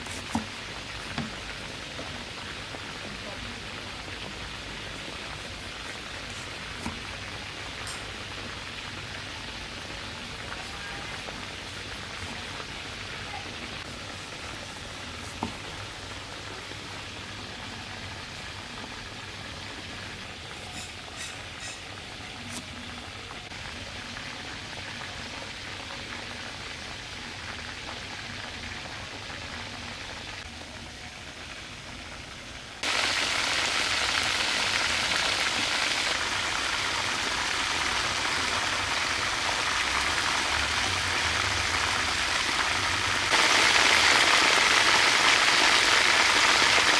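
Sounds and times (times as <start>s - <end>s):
chicken sizzling in a pan: 0.0s - 46.9s.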